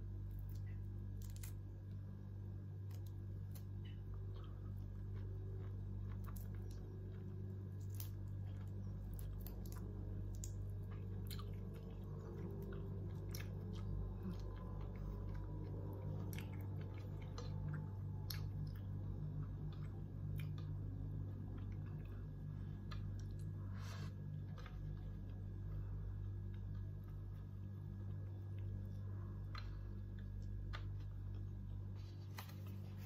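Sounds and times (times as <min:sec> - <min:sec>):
steady low hum: 0:00.0 - 0:33.0
person chewing food: 0:02.8 - 0:33.0.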